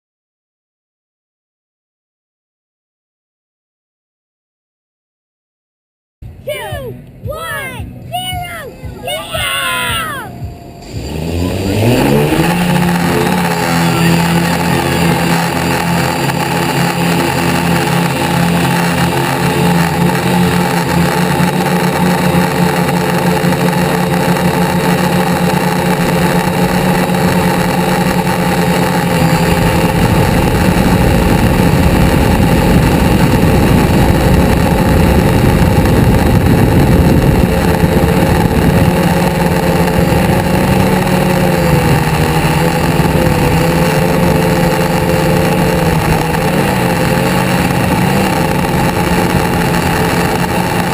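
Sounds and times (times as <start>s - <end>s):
car engines humming: 6.2s - 50.9s
deep engine rumble: 6.2s - 50.9s.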